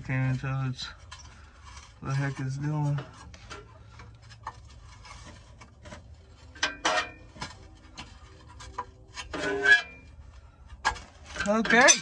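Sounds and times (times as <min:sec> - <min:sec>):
metal clanks: 0:00.0 - 0:12.0.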